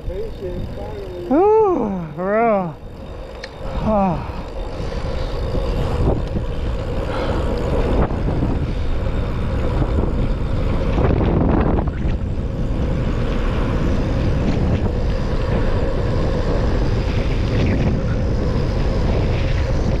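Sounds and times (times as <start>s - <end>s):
bike tyres rolling on pavement: 0.0s - 20.0s
wind buffeting microphone: 0.0s - 20.0s.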